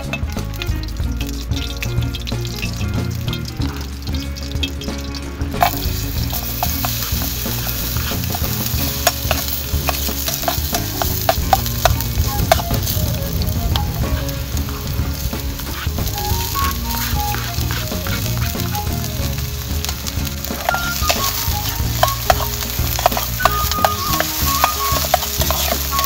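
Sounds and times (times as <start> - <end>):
fish and onion sizzling: 0.0 - 26.0
stirring crackles and ticks: 0.0 - 26.0.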